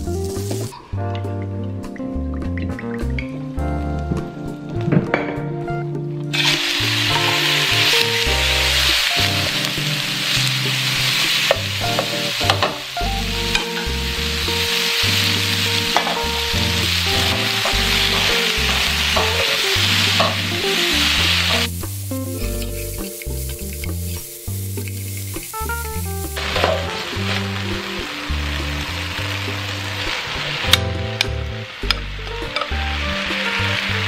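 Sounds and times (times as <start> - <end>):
chicken sizzling in a wok: 0.0 - 0.8, 6.3 - 34.0.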